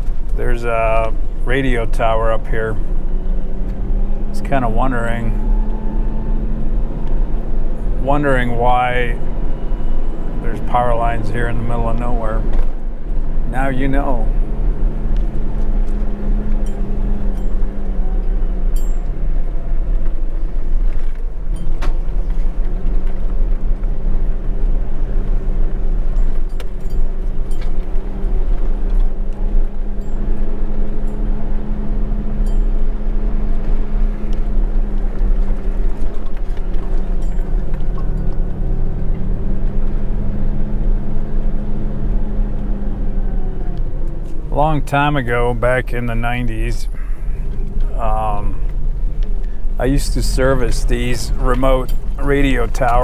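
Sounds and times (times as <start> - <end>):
truck engine running at low speed: 0.0 - 53.0.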